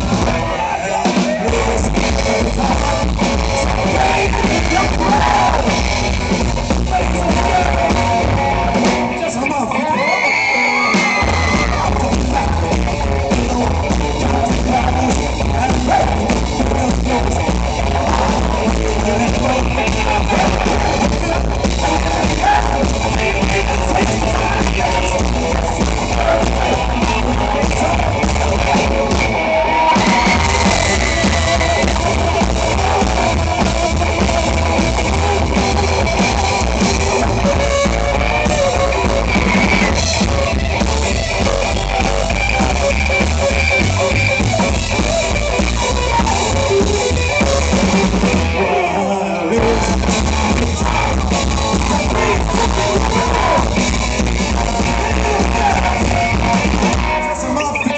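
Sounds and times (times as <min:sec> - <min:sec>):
drums: 0:00.0 - 0:57.9
electric guitar: 0:00.0 - 0:57.9
rockabilly band playing: 0:00.0 - 0:57.9
upright double bass: 0:01.5 - 0:09.0, 0:11.3 - 0:48.7, 0:49.6 - 0:57.2.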